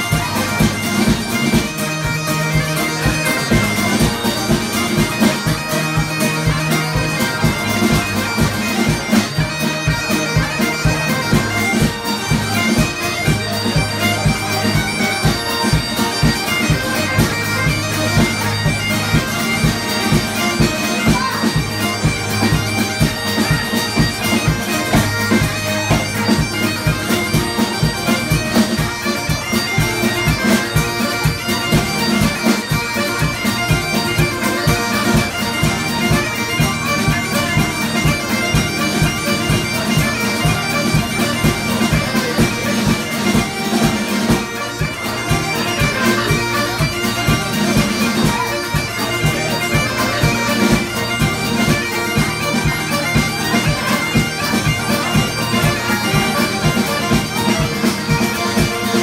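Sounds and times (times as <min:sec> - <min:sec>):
bagpipes with drones: 0:00.0 - 0:59.0
fiddle: 0:00.0 - 0:59.0
piano accordion: 0:00.0 - 0:59.0
strummed acoustic guitar: 0:00.0 - 0:59.0.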